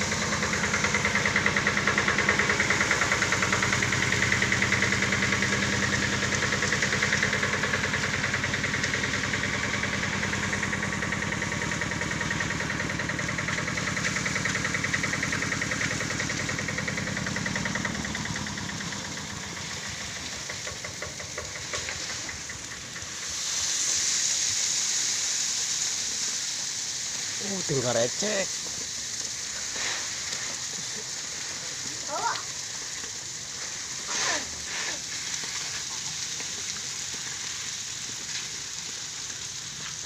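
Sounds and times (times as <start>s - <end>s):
machinery engine pulsing: 0.0s - 40.0s.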